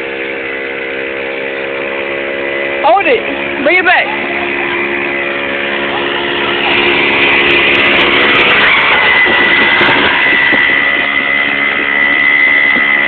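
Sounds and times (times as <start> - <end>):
high-pitched whine: 0.0 - 13.0
small engine running: 0.0 - 13.0.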